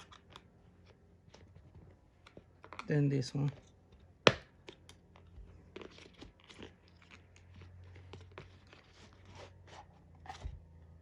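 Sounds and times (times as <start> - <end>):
small clicks and scrapes: 0.0 - 10.8.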